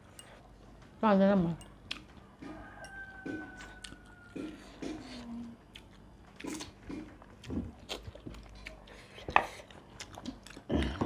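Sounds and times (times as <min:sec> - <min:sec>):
person chewing: 0:01.7 - 0:11.0.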